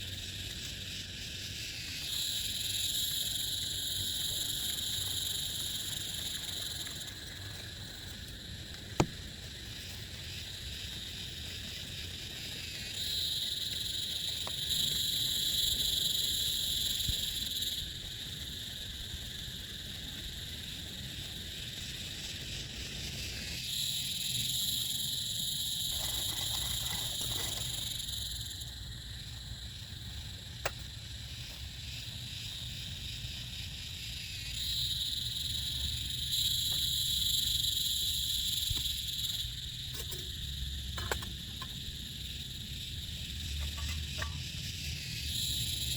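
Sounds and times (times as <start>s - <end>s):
insects or frogs trilling: 0.0s - 45.9s.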